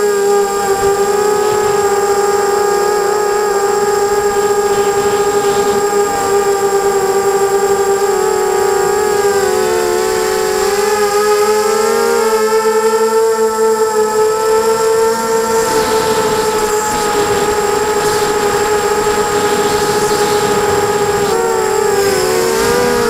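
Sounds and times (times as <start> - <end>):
quadcopter motors whining: 0.0 - 23.0.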